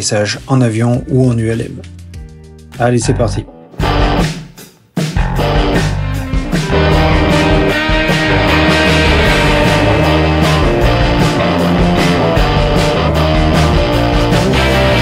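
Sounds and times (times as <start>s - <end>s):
rock music with guitar and drums: 1.9s - 15.0s.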